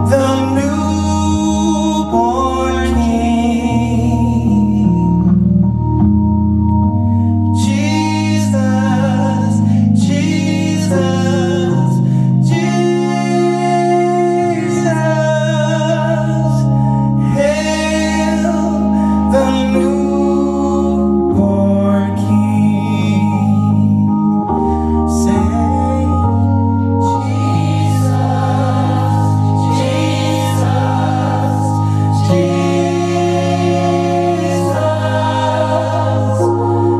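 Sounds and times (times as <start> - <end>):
men singing gospel carol: 0.0 - 5.0, 7.6 - 23.8, 25.1 - 36.9
organ chords: 0.0 - 36.9.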